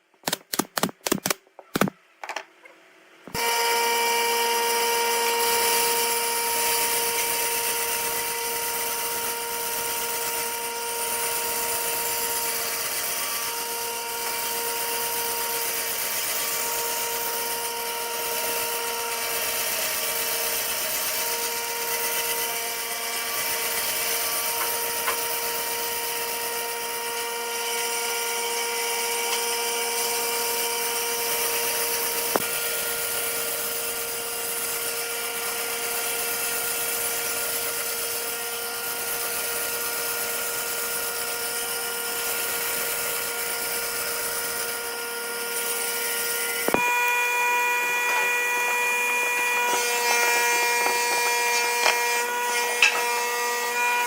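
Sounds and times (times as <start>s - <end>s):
power tool motor whine: 3.3s - 54.0s.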